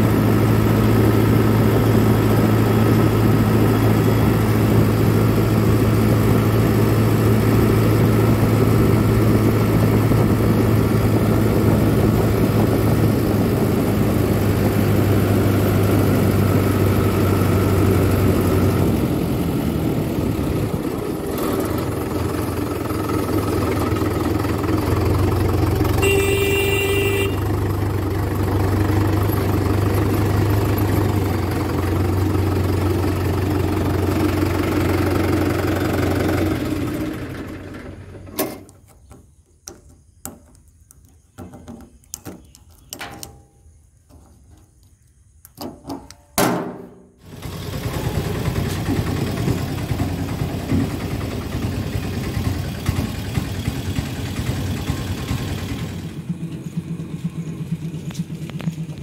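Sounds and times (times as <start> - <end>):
tractor diesel engine idling: 0.0 - 38.6, 47.2 - 59.0.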